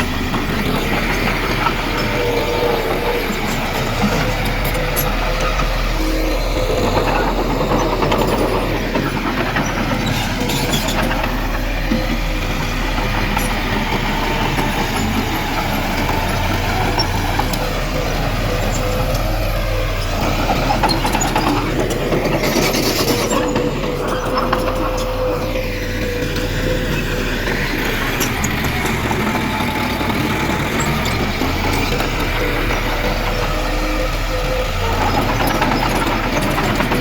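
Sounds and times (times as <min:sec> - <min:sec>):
diesel earthmoving machinery running: 0:00.0 - 0:37.0.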